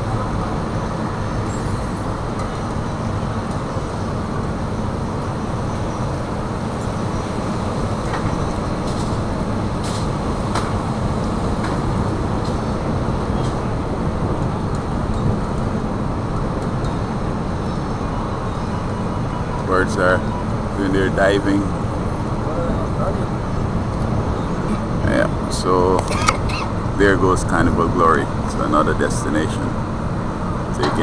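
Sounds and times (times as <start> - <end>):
ship engines droning: 0.0 - 31.0.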